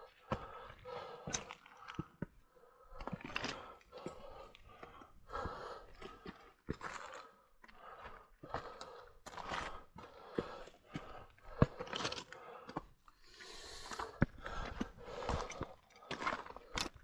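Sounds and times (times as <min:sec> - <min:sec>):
heavy breathing: 0:00.0 - 0:16.9.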